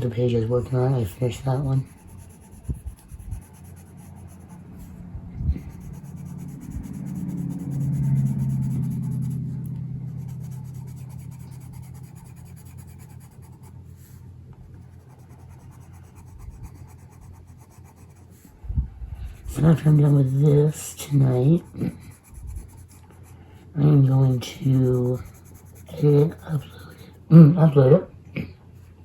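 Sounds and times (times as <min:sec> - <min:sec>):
pencil scratching on paper: 0:00.0 - 0:18.5, 0:19.2 - 0:27.3
low hum: 0:00.0 - 0:26.9.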